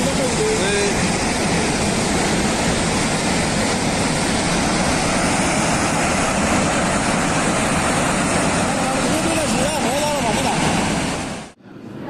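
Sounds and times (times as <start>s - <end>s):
floodwater roaring: 0.0s - 12.0s.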